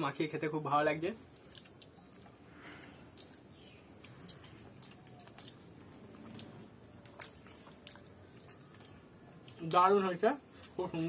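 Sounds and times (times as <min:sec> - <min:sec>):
quiet chewing: 0:01.3 - 0:09.7, 0:10.5 - 0:11.0.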